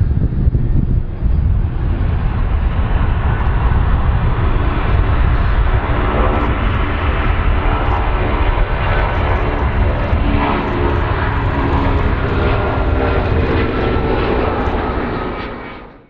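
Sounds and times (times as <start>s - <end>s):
jet engine whine: 0.0s - 16.0s
jet engines rumbling: 0.0s - 16.0s.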